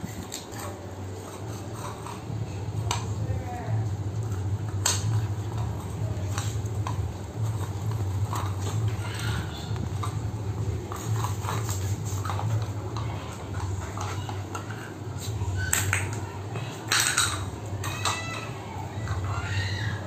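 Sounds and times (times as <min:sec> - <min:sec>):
steady low hum: 0:00.0 - 0:20.0
dog eating from metal bowl: 0:00.1 - 0:18.3.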